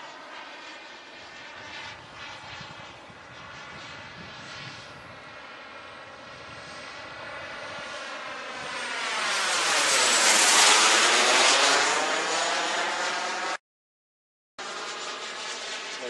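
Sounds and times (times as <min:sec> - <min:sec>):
jet turbine engine whine: 0:00.0 - 0:13.6, 0:14.6 - 0:16.0.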